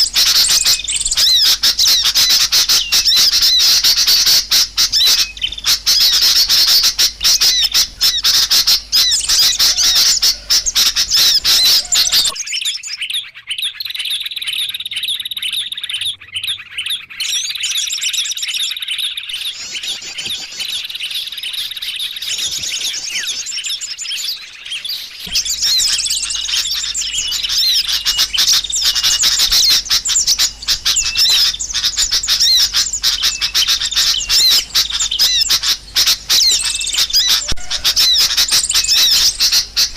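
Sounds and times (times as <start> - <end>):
small birds chirping rapidly: 0.0 - 39.9.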